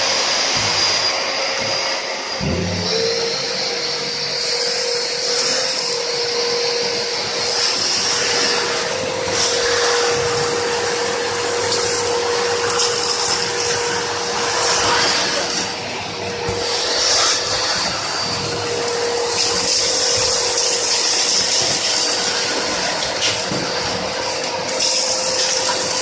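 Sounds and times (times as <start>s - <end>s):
vacuum cleaner whine: 0.0s - 26.0s.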